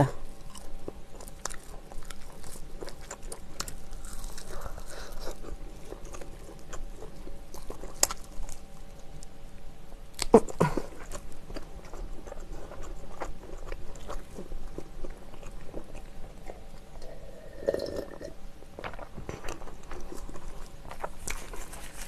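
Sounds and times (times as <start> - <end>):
wet chewing: 0.4 - 9.4, 10.2 - 18.2, 18.8 - 22.0.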